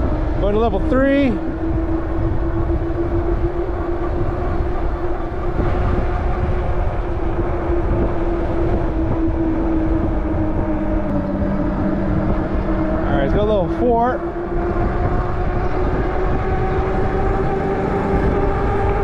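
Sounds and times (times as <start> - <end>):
electric motor whine: 0.0 - 19.0
low steady tone: 0.0 - 19.0
wind buffeting microphone: 0.0 - 19.0.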